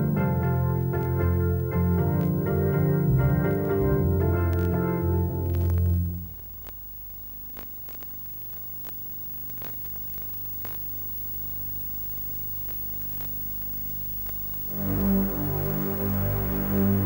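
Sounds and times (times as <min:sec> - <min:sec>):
faint hiss: 0:00.0 - 0:17.0
low electrical hum: 0:00.0 - 0:17.0.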